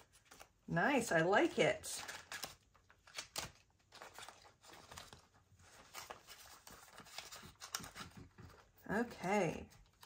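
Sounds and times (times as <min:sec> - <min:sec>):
paper cards rustling and clicking: 0:00.0 - 0:10.0.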